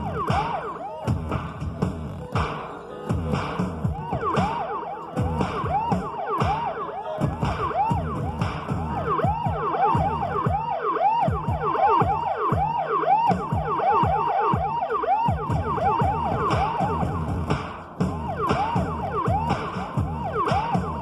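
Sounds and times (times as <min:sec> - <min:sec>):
synthesizer siren sweeps: 0:00.0 - 0:21.0.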